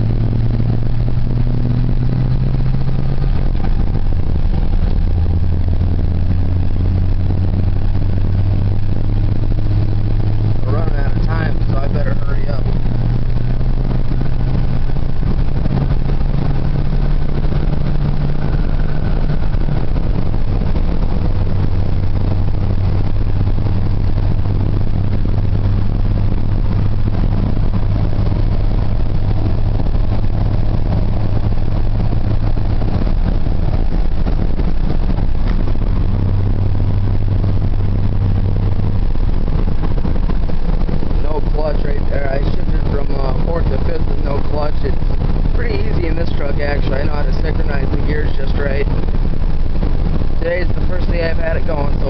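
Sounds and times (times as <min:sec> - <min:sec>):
road noise hum: 0:00.0 - 0:52.0
truck engine running: 0:00.0 - 0:52.0.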